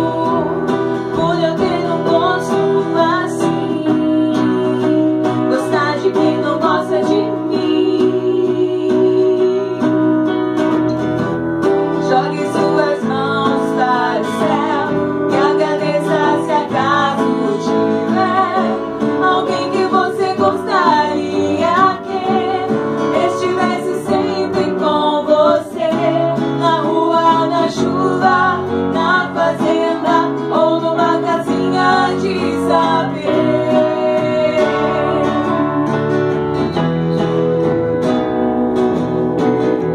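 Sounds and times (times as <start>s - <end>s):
women singing: 0.0s - 10.3s, 11.7s - 36.7s
guitar accompaniment: 0.0s - 39.9s.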